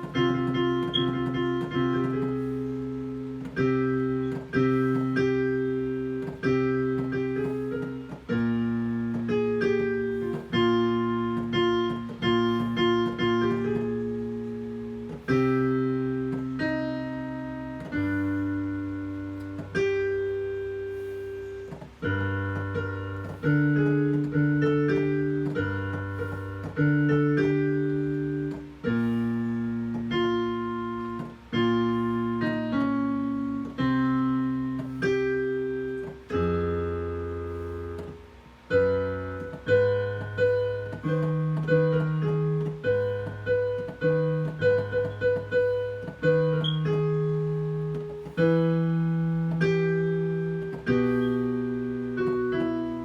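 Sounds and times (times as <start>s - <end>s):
piano playing chords: 0.0s - 53.0s.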